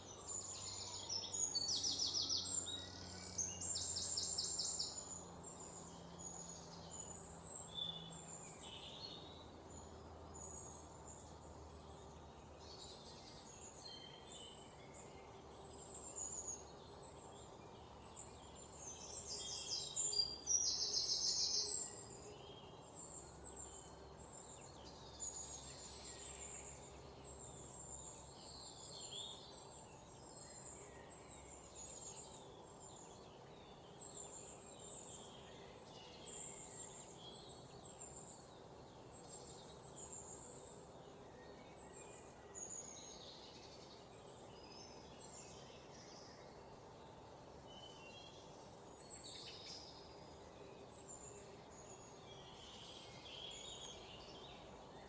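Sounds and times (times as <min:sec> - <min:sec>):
low background hiss: 0:00.0 - 0:55.0
small birds chirping and trilling: 0:00.0 - 0:55.0.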